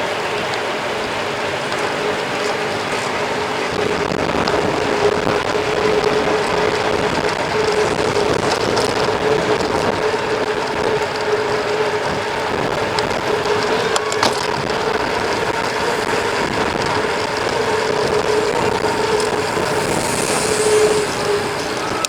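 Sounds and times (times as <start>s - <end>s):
tyres humming: 0.0s - 22.0s
wind rush on microphone: 0.0s - 22.0s.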